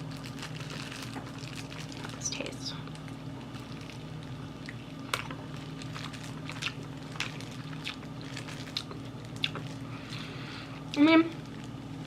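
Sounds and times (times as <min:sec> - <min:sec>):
chewing and crunching: 0:00.0 - 0:10.3
low steady hum: 0:00.0 - 0:12.0.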